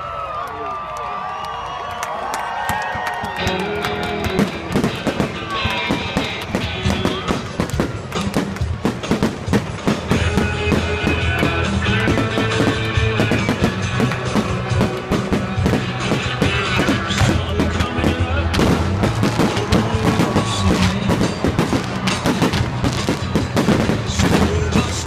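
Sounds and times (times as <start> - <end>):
firework bangs and crackles: 2.8 - 25.0
loud rock music: 3.4 - 25.0.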